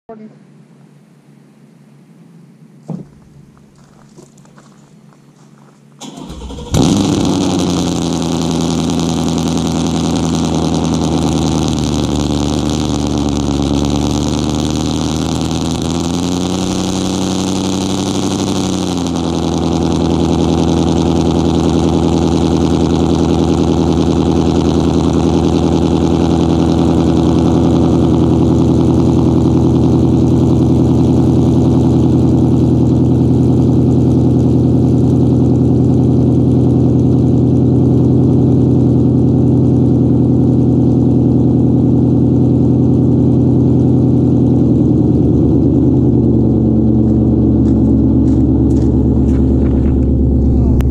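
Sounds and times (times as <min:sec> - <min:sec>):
car engine idling loudly: 0:06.0 - 0:50.9.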